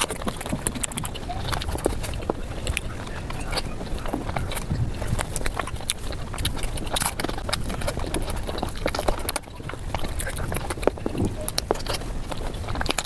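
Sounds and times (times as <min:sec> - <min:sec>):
wet chewing and mouth clicks: 0:00.0 - 0:13.0.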